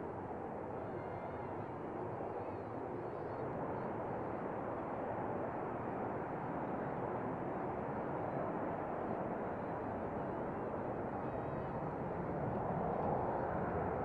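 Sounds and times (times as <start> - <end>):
jet engines at takeoff power: 0.0 - 14.0.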